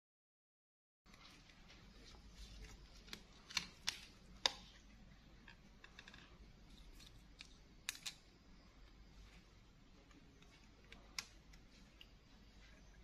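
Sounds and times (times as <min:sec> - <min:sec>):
faint room noise: 0:01.1 - 0:13.0.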